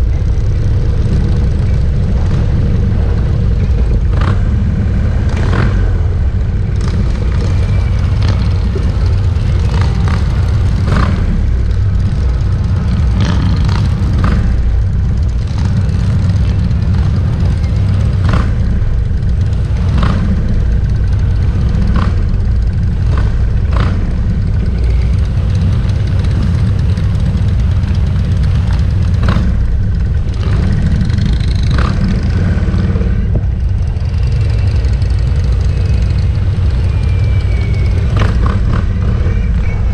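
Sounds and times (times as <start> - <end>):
motorcycles riding past: 0.0 - 39.9.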